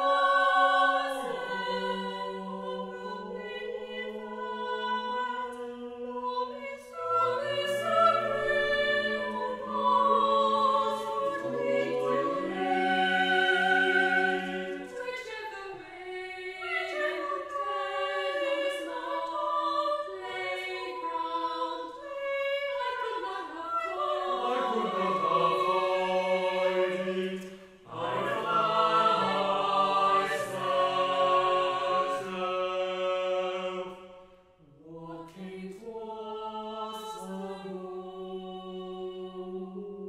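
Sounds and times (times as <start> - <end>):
choir singing sustained chords: 0.0 - 40.0.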